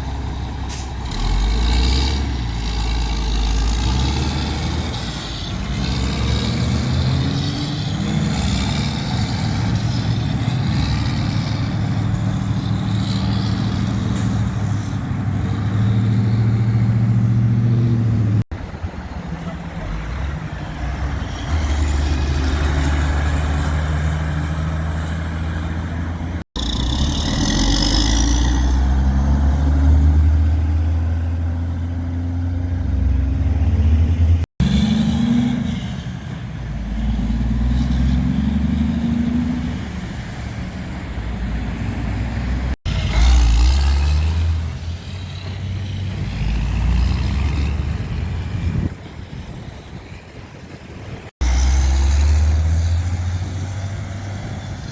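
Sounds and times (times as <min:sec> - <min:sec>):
truck engines driving past: 0:00.0 - 0:54.9.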